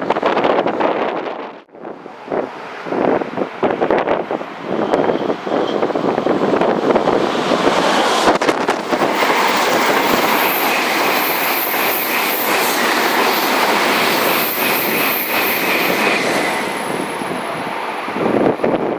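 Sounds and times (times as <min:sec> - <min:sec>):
train passing: 0:00.3 - 0:18.9.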